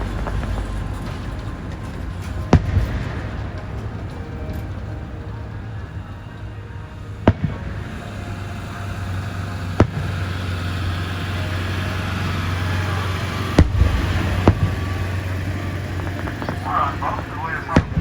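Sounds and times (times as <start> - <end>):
firework shells bursting: 0.0 - 18.0
steady rushing noise: 0.0 - 18.0.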